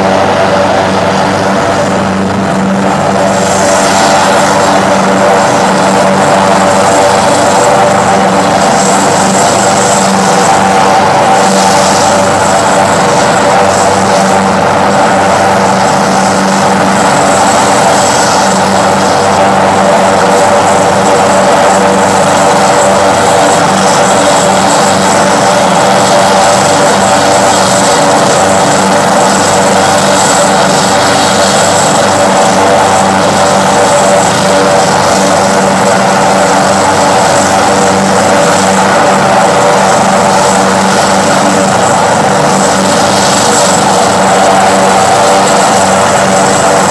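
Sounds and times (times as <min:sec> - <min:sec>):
helicopter engine and rotor whine: 0:00.0 - 0:46.9.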